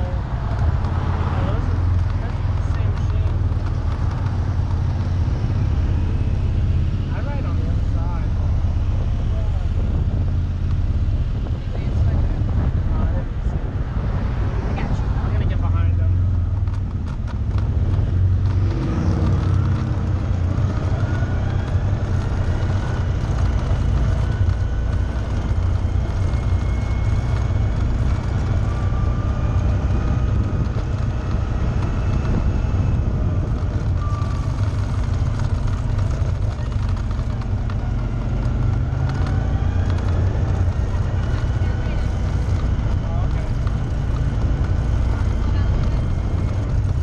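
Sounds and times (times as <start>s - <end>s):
off-road vehicle engine: 0.0s - 47.0s.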